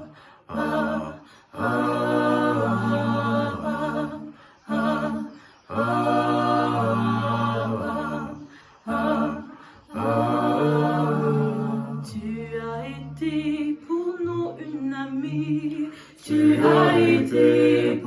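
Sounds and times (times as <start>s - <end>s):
vocal group singing harmony: 0.0s - 18.0s.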